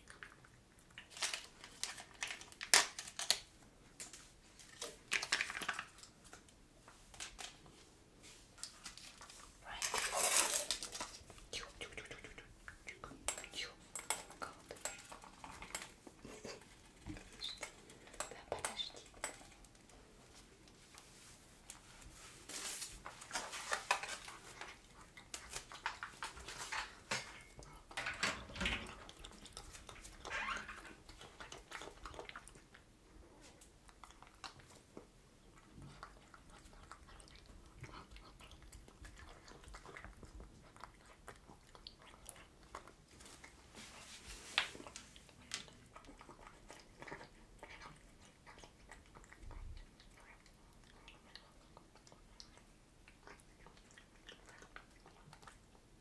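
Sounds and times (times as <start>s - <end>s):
cat chewing food: 0.0s - 7.8s, 10.7s - 22.2s, 23.0s - 56.0s.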